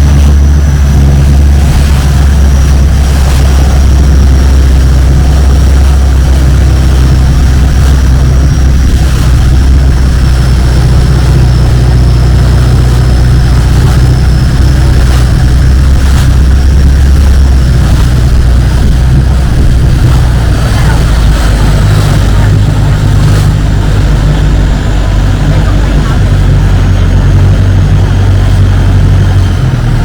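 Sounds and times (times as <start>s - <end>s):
boat engine deep drone: 0.0s - 30.0s.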